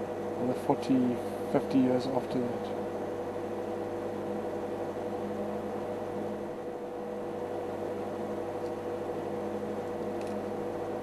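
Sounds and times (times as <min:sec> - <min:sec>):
mechanical hum with held tones: 0:00.0 - 0:11.0.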